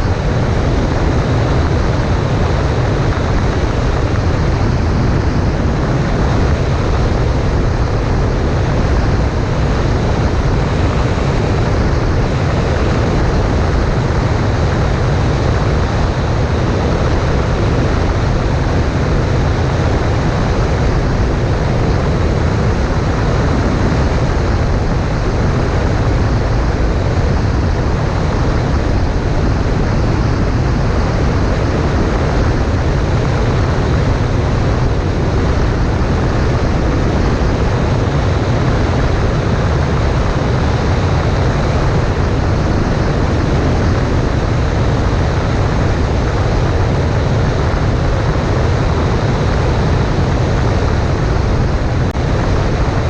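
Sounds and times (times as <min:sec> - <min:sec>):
aircraft engine and propeller drone: 0:00.0 - 0:53.0
wind rush: 0:00.0 - 0:53.0.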